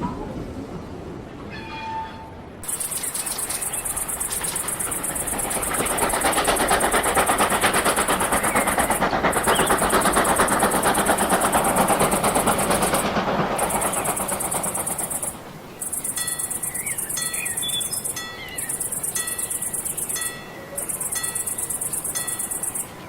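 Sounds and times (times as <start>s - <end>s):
train running rhythmically: 2.5s - 23.0s.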